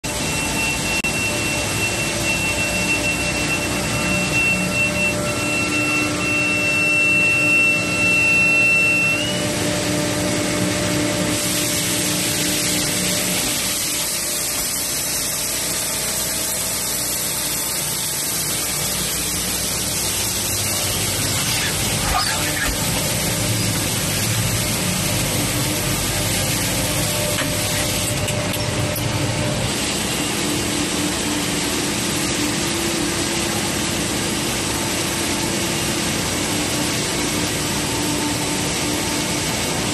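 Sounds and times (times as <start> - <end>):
high machine whine: 0.0 - 39.9
machinery hum and whir: 0.0 - 39.9
hissy machine noise: 0.1 - 39.9.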